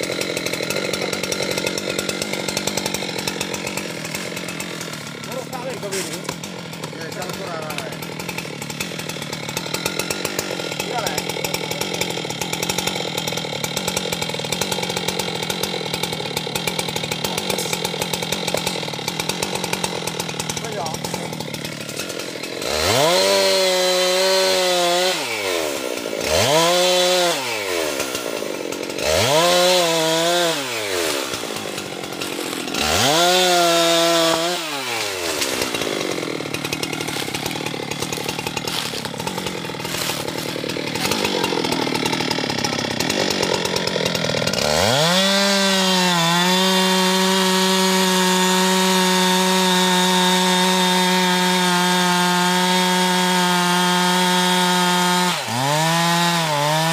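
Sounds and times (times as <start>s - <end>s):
chainsaw revving: 0.0s - 56.9s.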